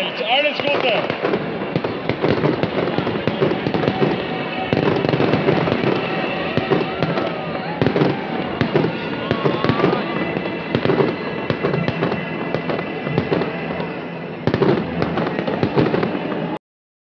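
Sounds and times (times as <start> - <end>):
fireworks bangs and crackles: 0.0 - 16.6
music playing: 0.0 - 16.6.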